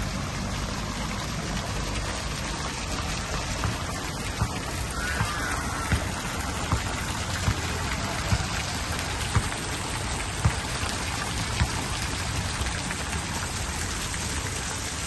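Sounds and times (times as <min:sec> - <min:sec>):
water hissing and splashing: 0:00.0 - 0:15.0.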